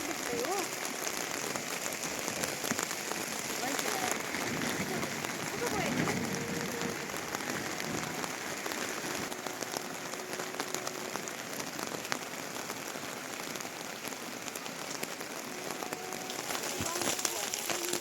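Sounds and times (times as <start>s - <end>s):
raindrops clicking close by: 0.0s - 18.0s
steady rain falling: 0.0s - 18.0s.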